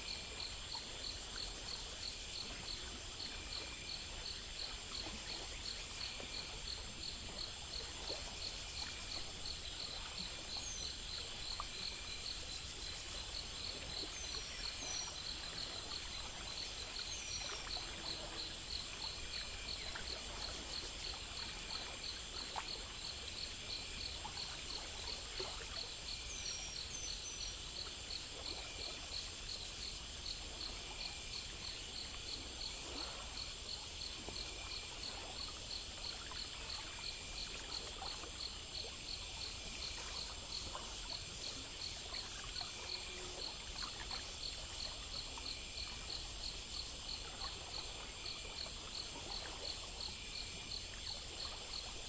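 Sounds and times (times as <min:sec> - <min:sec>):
faint water trickling: 0:00.0 - 0:52.0
night insects chirping: 0:00.0 - 0:52.0.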